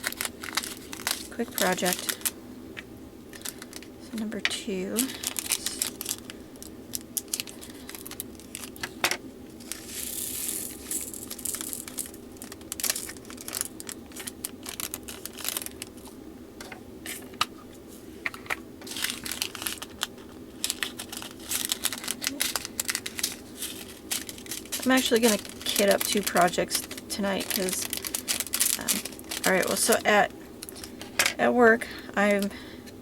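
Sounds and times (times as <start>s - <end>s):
plastic bags crinkling: 0.0s - 2.4s, 3.3s - 16.2s, 18.3s - 32.6s.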